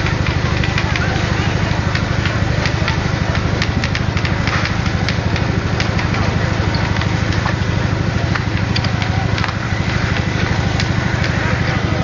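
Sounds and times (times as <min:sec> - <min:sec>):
engine running with fast beat: 0:00.0 - 0:12.0
sharp cracks: 0:00.0 - 0:12.0.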